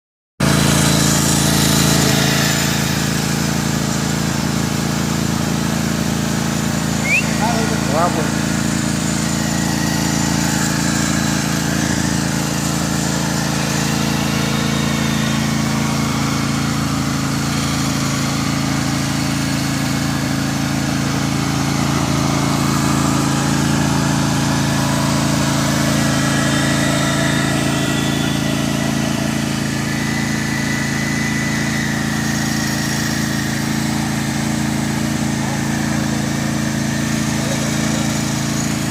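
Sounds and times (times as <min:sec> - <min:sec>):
tractor engine running: 0:00.4 - 0:38.9.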